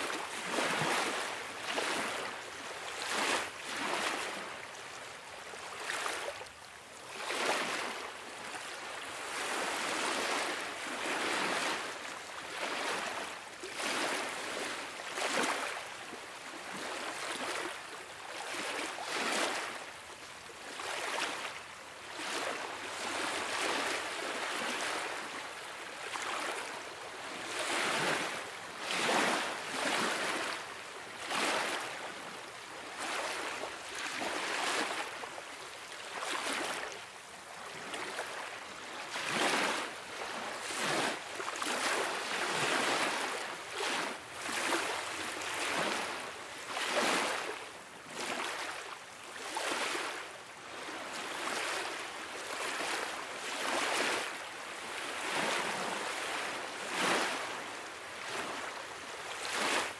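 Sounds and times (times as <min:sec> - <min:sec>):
small waves lapping at shore: 0:00.0 - 0:59.9.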